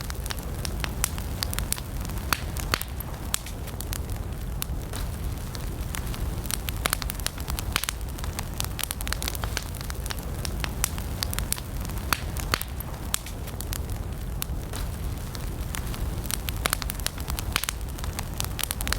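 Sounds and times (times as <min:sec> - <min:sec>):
campfire crackling and popping: 0:00.0 - 0:18.9.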